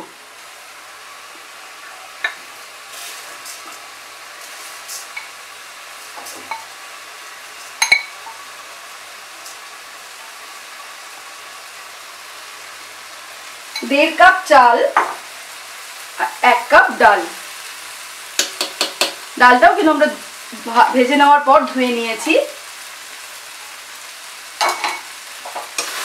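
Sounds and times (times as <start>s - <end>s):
paste sizzling in oil: 0.0s - 26.0s.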